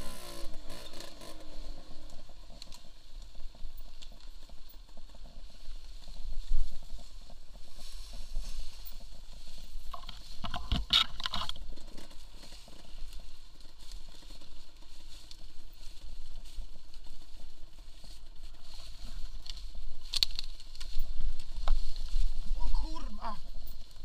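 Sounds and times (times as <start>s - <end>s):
leaves and branches scraping: 0.0s - 24.0s
motorcycle engine rumbling: 0.0s - 24.0s.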